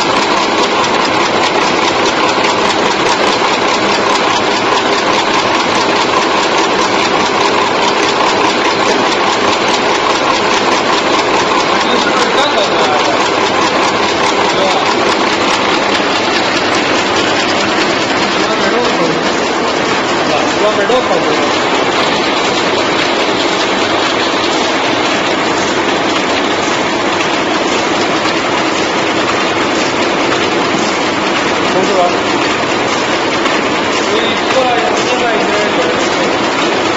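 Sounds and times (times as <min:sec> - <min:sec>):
machine clattering and ticking: 0:00.0 - 0:36.9.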